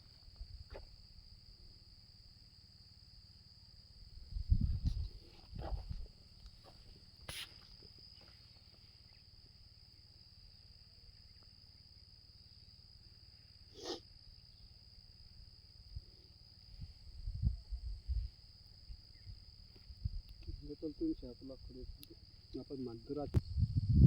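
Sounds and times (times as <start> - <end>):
crickets droning: 0.0 - 24.0.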